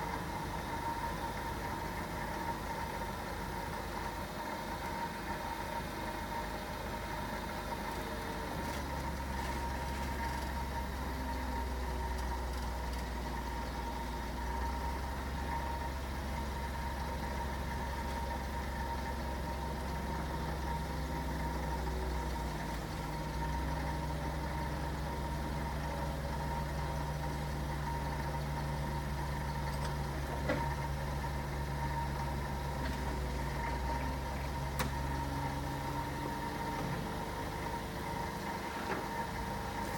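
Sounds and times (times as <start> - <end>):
forklift engine running: 0.0 - 39.9.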